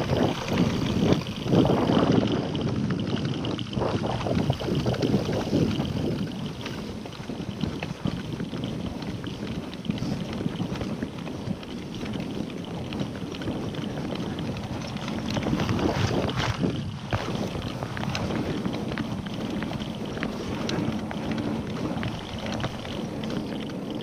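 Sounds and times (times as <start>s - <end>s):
bike rattles and knocks: 0.0s - 24.0s
tyres rumbling on dirt: 0.0s - 24.0s
wind buffeting microphone: 0.0s - 24.0s.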